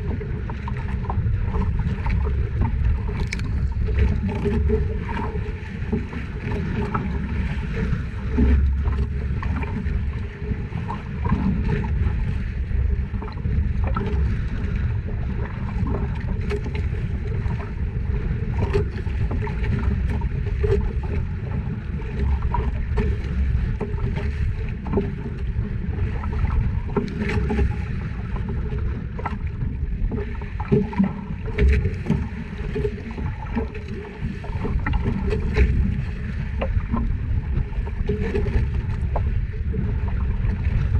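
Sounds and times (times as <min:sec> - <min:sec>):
boat motor running: 0:00.0 - 0:40.9
water noise: 0:00.0 - 0:40.9
wind noise: 0:00.0 - 0:40.9.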